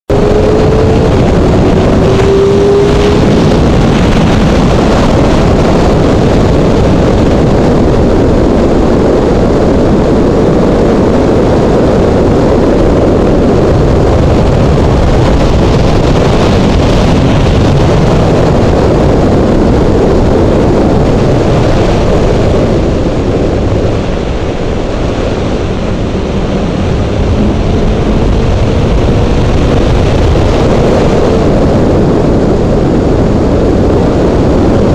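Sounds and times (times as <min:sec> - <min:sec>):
motorcycle engine running: 0:00.1 - 0:10.2, 0:10.8 - 0:34.9
wind rush over microphone: 0:00.1 - 0:34.9.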